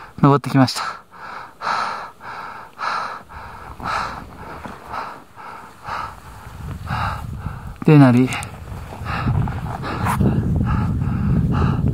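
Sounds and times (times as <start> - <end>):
person breathing heavily: 0.8 - 11.9.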